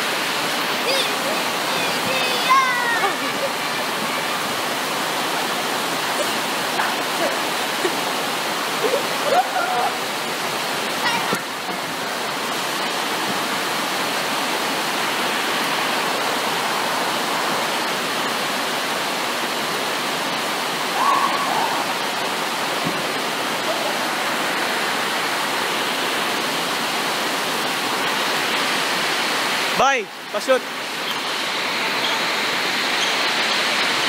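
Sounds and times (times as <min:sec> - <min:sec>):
steady rushing noise: 0:00.0 - 0:34.0.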